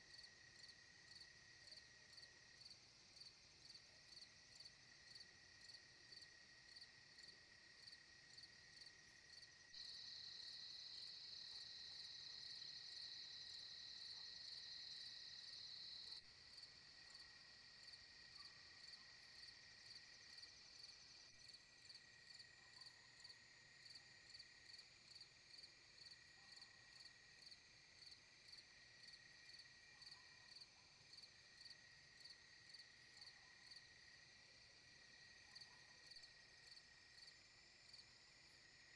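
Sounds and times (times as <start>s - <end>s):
loud continuous insect trill: 0.0s - 38.9s.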